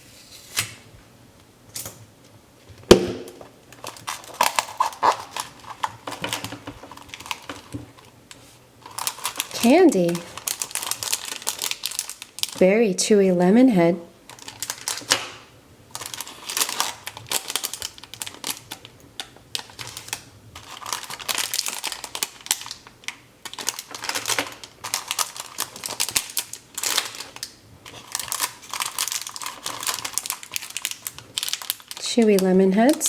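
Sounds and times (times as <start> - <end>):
plastic candy wrappers crinkling: 3.1 - 12.7, 14.2 - 33.0.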